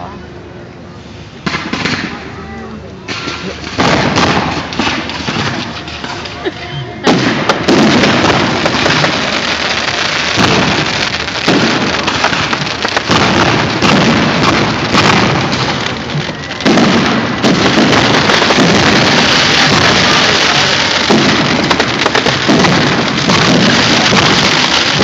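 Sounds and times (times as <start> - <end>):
heavy firework bursts: 1.0 - 2.4, 3.0 - 25.0
fireworks crackling: 1.2 - 25.0.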